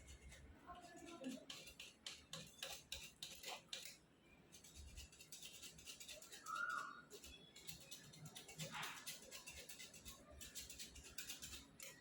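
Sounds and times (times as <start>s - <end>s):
faint light clicks and scrapes: 0.0s - 12.0s.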